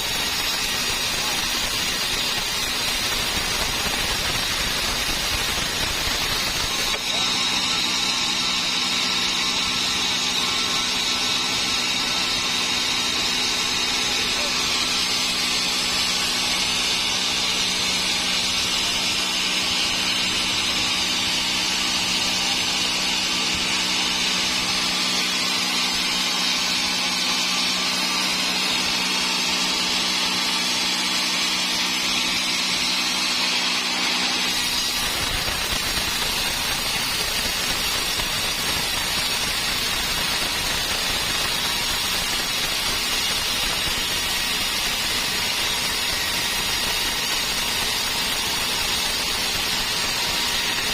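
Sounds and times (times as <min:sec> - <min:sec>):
sawmill saw cutting wood: 0:00.0 - 0:50.9.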